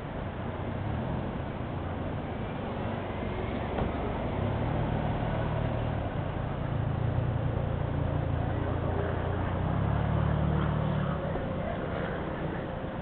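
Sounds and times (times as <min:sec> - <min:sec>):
car engine humming: 0:00.0 - 0:13.0
traffic noise: 0:00.0 - 0:13.0.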